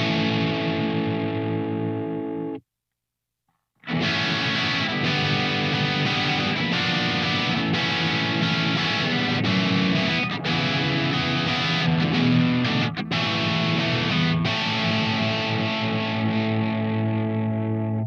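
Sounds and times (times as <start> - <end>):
electric guitar through an amp: 0.0 - 2.6, 3.8 - 18.0.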